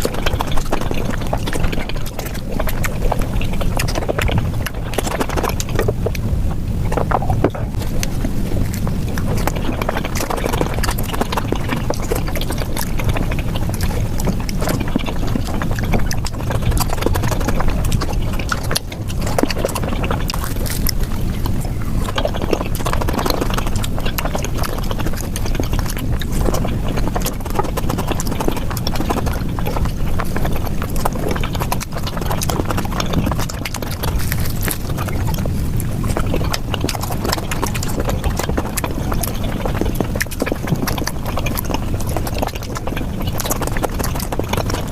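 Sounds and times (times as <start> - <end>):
sped-up chewing and lip smacks: 0.0 - 44.9.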